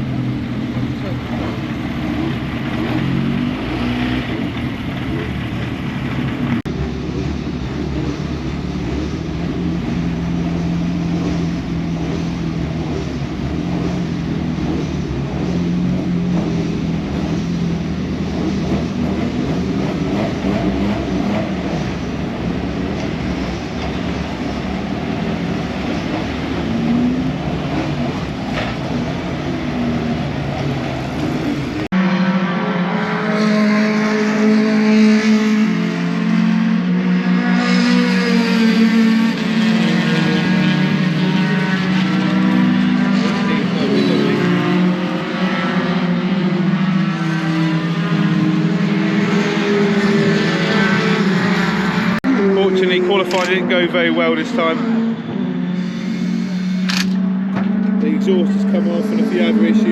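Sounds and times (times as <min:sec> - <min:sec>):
truck engines droning: 0:00.0 - 0:59.9.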